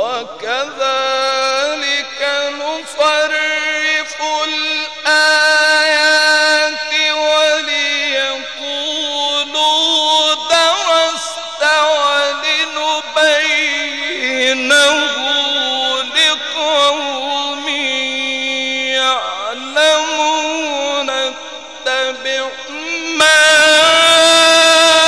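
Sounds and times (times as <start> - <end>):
man reciting melodically: 0.0 - 25.0.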